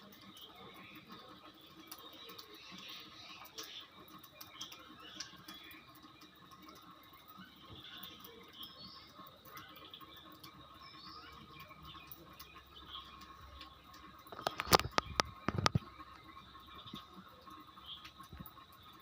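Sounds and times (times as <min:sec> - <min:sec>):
small chirps and ticks: 0:00.0 - 0:19.0.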